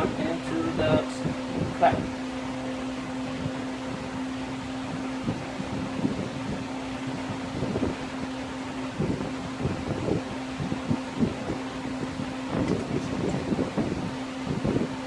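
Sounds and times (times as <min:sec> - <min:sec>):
heat gun fan hum: 0:00.0 - 0:15.0.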